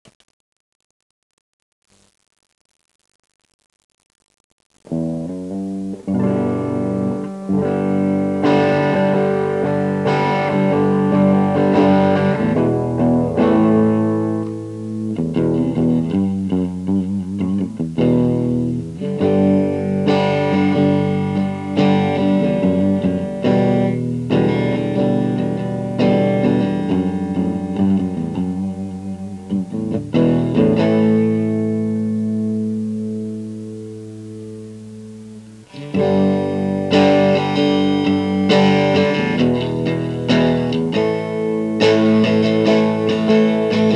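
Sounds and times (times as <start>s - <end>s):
electric guitar chords: 3.0s - 43.9s.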